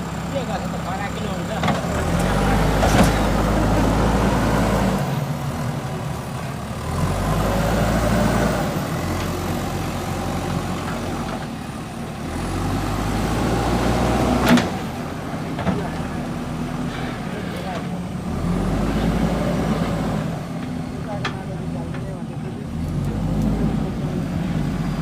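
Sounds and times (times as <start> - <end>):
diesel engine labouring: 0.0 - 25.0.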